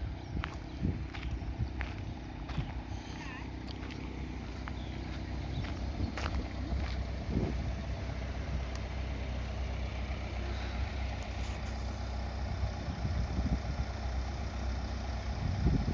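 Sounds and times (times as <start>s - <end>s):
diesel engine idling: 0.0s - 15.9s.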